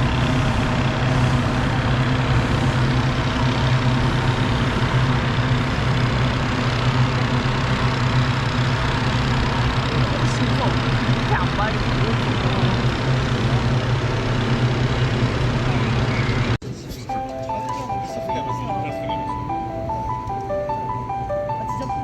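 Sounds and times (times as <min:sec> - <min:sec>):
engine-driven fan humming: 0:00.0 - 0:22.0.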